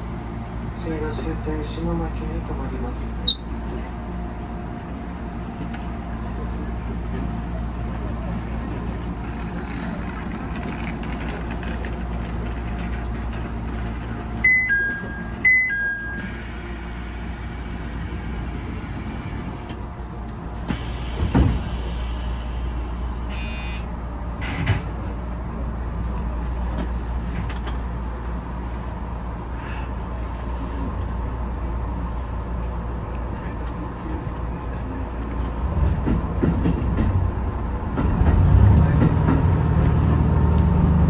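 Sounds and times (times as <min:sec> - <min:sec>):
train running noise: 0:00.0 - 0:41.0.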